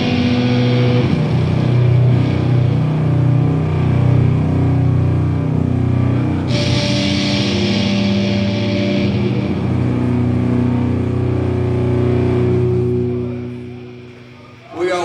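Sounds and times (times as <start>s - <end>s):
distorted guitars and bass: 0.0s - 15.0s.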